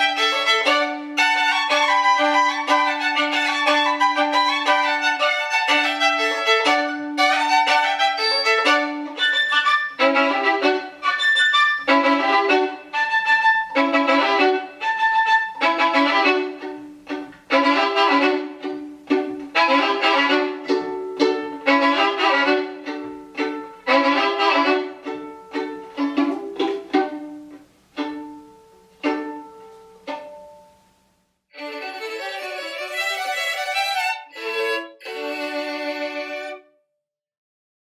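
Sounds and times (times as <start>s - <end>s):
solo violin playing chords: 0.0s - 36.7s.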